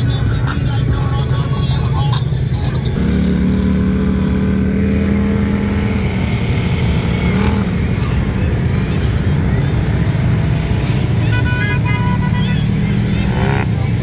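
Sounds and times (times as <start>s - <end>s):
utility vehicle engines rumbling: 0.0s - 14.0s.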